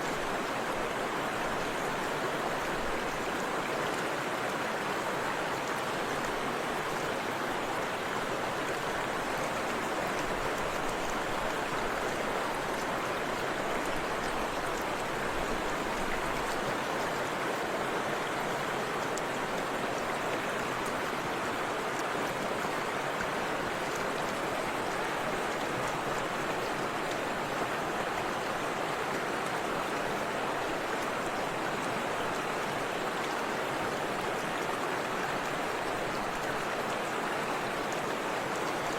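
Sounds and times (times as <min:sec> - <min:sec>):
river water flowing and splashing: 0:00.0 - 0:38.9.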